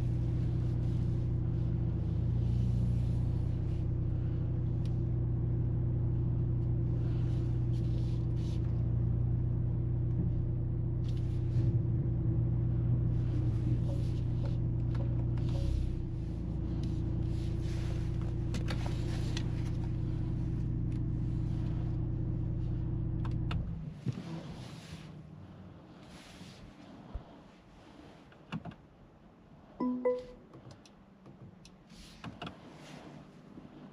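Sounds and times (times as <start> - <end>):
car engine running steadily: 0.0 - 33.9.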